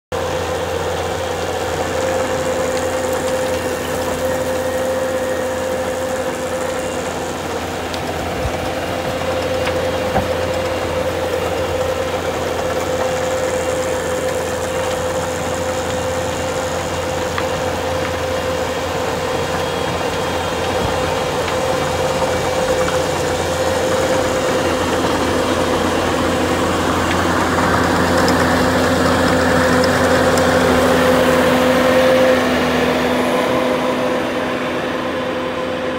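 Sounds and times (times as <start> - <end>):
diesel engine running under load: 0.1 - 35.9
rotary tiller churning soil: 0.1 - 35.9.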